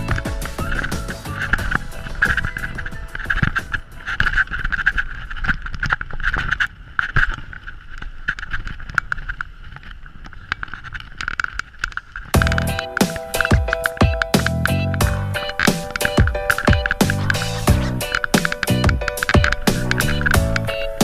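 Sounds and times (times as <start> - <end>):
bike rattling over bumps: 0.0 - 21.0.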